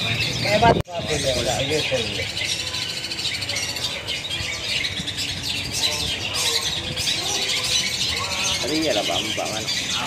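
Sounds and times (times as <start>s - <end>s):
birds chirping rapidly: 0.0s - 10.0s.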